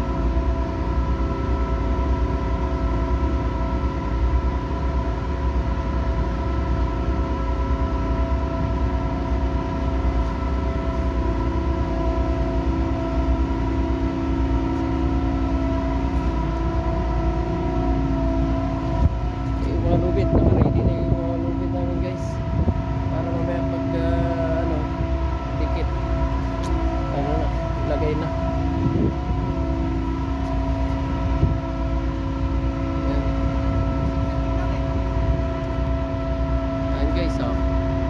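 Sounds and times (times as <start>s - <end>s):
continuous low rumble: 0.0s - 38.0s
ship machinery hum: 0.0s - 38.0s.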